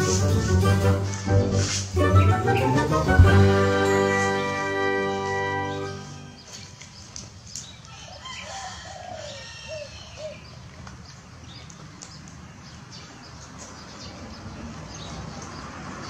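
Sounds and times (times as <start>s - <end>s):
birds chirping: 1.6s - 16.0s.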